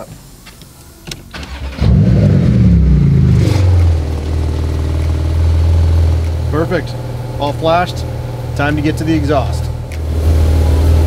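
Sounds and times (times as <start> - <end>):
car engine starting and idling: 1.1 - 11.0.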